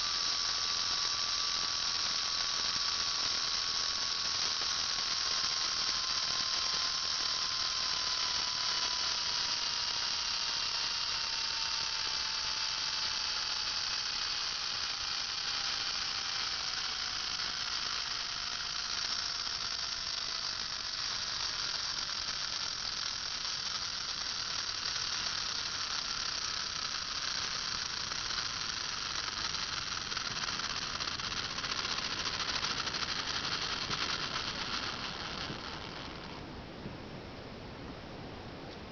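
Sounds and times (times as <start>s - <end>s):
electric motor whining: 0.0s - 36.5s.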